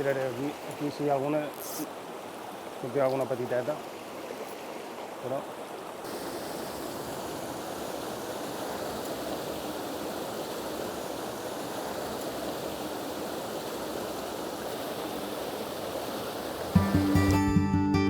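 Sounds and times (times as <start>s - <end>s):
river rushing over rocks: 0.0s - 17.2s.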